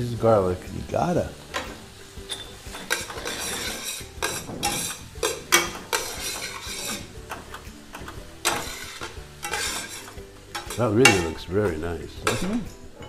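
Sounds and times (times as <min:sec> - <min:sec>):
vegetables frying: 0:00.0 - 0:13.0
spatula scraping a metal pan: 0:01.6 - 0:12.6.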